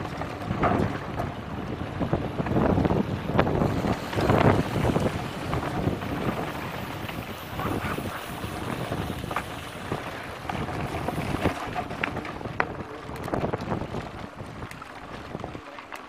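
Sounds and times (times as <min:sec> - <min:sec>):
wind buffeting microphone: 0:00.0 - 0:15.8
bike knocking and rattling: 0:00.0 - 0:16.0.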